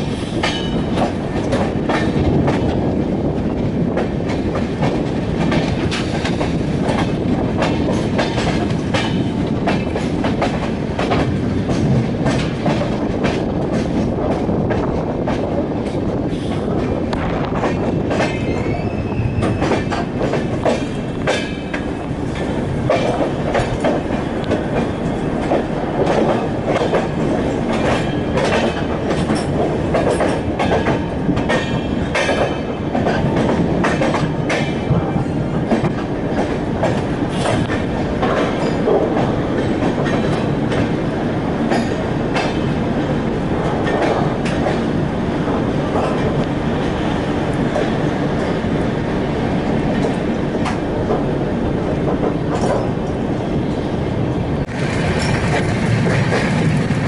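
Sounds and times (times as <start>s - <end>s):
train rumble: 0.0s - 57.0s
train wheels clattering over rails: 0.0s - 57.0s.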